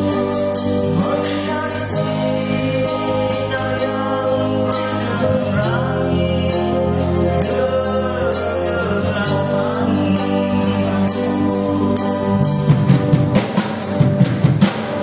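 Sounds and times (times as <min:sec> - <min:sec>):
live band playing slow song: 0:00.0 - 0:15.0.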